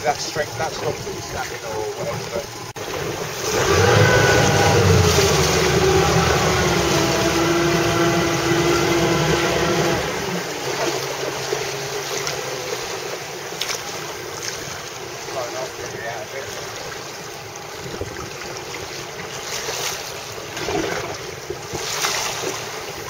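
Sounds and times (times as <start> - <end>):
motorboat engine running: 0.0 - 23.0
wind and water noise: 0.0 - 23.0.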